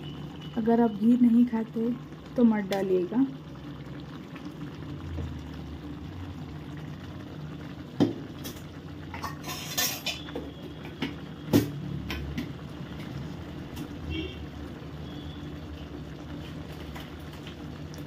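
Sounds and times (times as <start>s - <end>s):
thick food bubbling: 0.0s - 18.0s.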